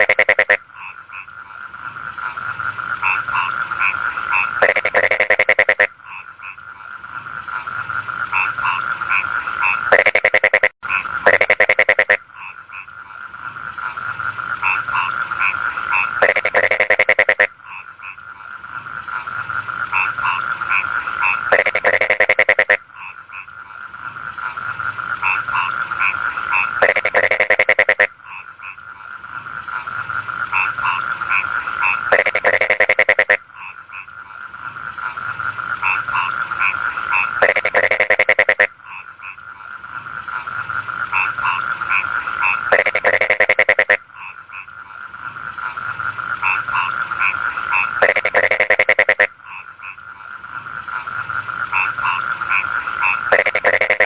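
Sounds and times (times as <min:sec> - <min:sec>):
frogs croaking in chorus: 0:00.0 - 0:54.0.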